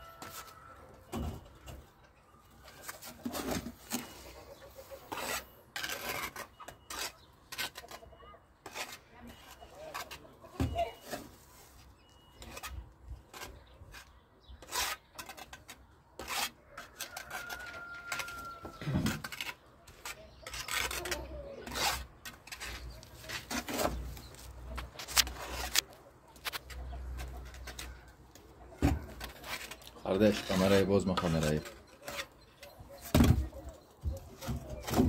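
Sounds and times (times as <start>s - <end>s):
tools scraping masonry: 2.7s - 35.0s.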